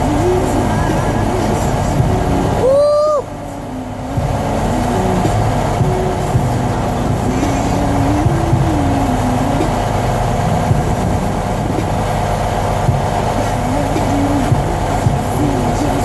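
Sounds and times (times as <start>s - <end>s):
diesel engine idling: 0.0s - 16.0s
wavering pitched tone: 0.0s - 16.0s.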